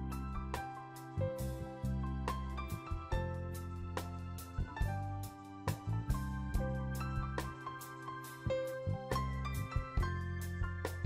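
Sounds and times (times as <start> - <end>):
soft instrumental piano music: 0.0 - 11.0.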